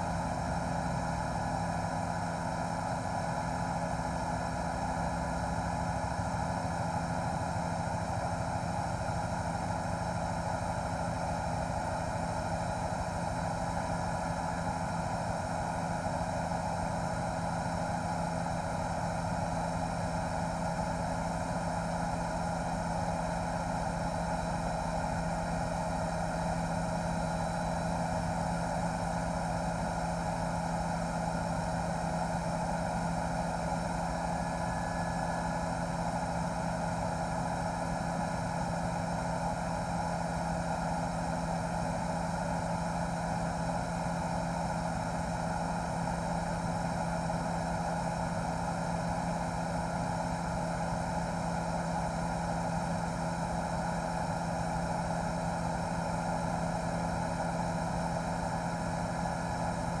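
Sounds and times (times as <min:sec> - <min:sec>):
helicopter rotor drone: 0:00.0 - 1:00.0.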